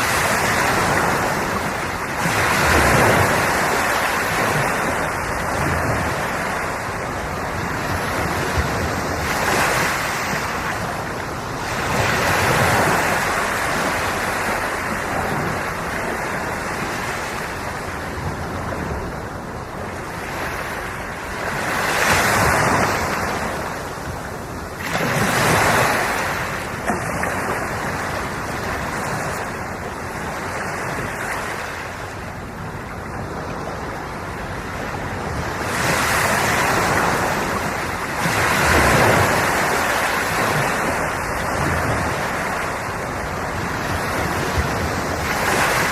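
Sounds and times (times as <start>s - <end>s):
sea waves breaking: 0.0s - 45.9s
wind on microphone: 0.0s - 45.9s.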